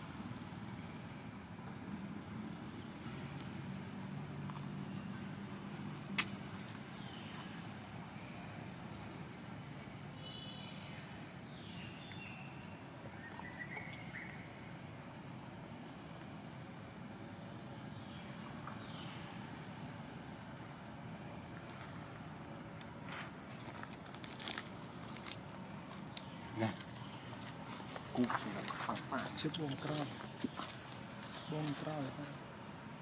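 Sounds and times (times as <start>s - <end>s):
high insect chirp: 0.0s - 33.0s.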